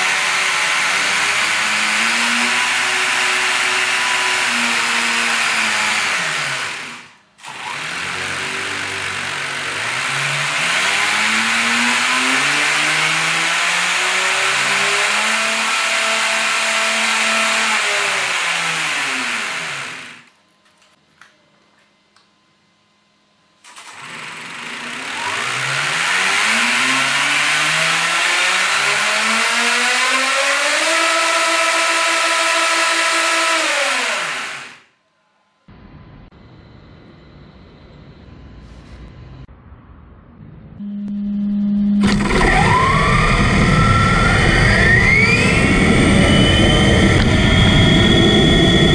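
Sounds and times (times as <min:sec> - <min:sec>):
electric motor and gears whining: 0:00.0 - 0:20.4, 0:23.6 - 0:34.9, 0:40.8 - 0:48.9.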